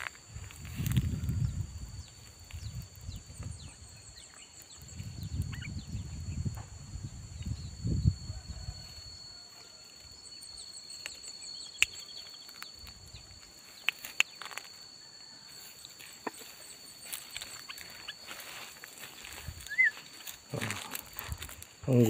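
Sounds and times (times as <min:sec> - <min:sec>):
high-pitched insect drone: 0:00.0 - 0:22.0
faint rapid chirping: 0:01.1 - 0:22.0.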